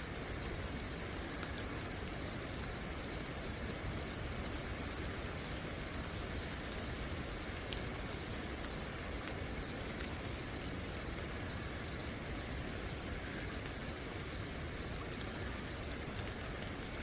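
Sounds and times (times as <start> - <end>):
crickets chirping: 0.0 - 17.0
steady rain: 0.0 - 17.0.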